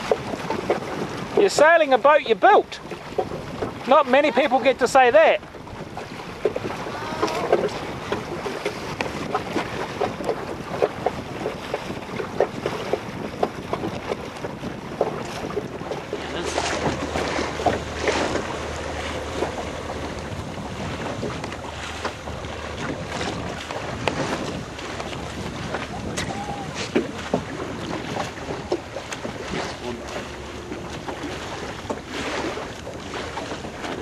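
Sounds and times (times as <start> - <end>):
waves splashing against boat hull: 0.0 - 34.0
wind blowing across microphone: 0.0 - 34.0.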